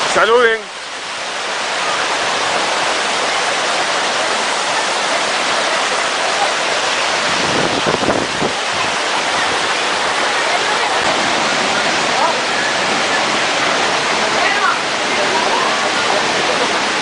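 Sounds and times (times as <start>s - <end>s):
waterfall crashing: 0.0s - 17.0s.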